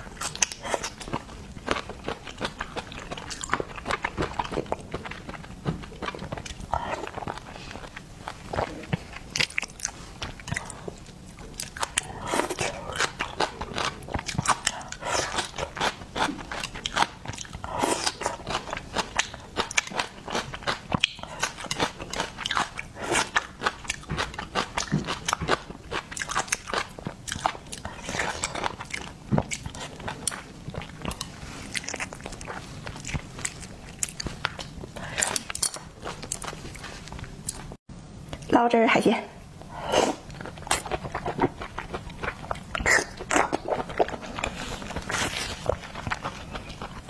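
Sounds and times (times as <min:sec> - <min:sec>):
chewing crunches: 0:00.1 - 0:38.5, 0:40.2 - 0:47.0.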